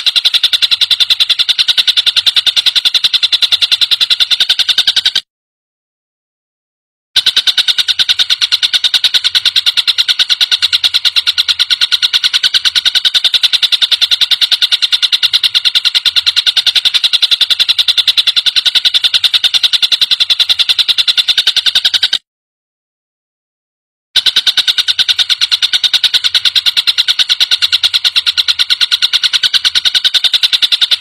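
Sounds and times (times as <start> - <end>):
kingfisher rattling call: 0.0 - 5.2, 7.2 - 22.2, 24.2 - 31.0.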